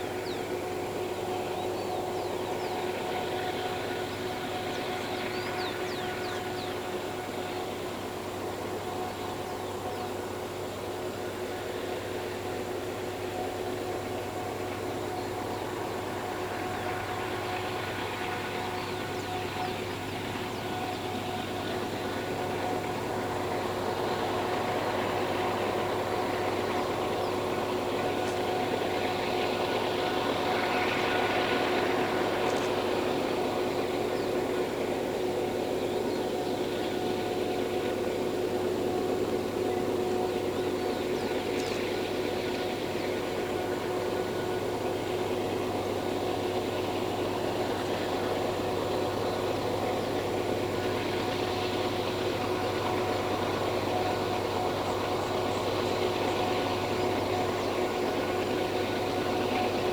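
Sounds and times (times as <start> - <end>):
locomotive engine at full throttle: 0.0 - 59.9
steady whine: 0.0 - 59.9.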